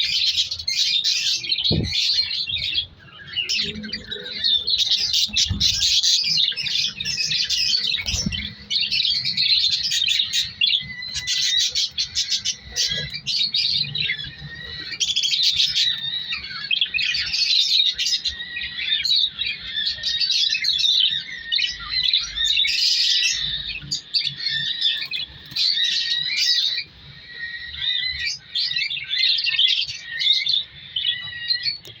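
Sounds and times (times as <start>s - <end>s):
budgerigars chirping: 0.0s - 32.0s.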